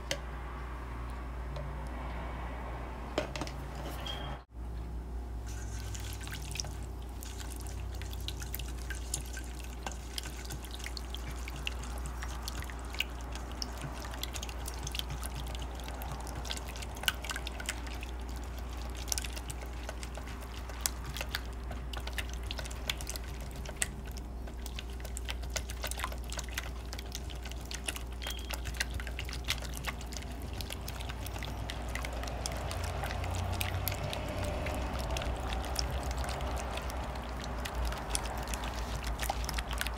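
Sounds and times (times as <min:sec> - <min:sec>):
wet stirring: 0:05.4 - 0:39.9
whisk clicking against metal bowl: 0:07.3 - 0:39.9.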